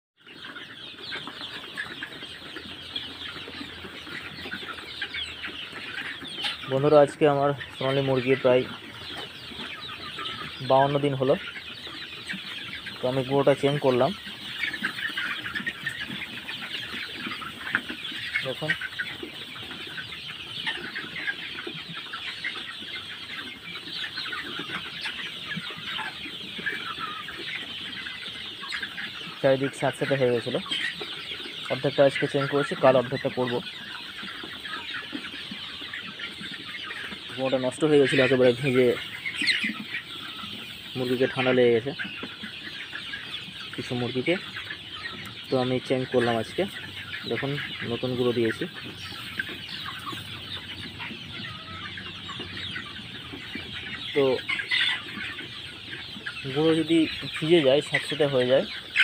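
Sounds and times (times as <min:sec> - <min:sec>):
flock of chickens clucking: 0:00.2 - 0:59.0.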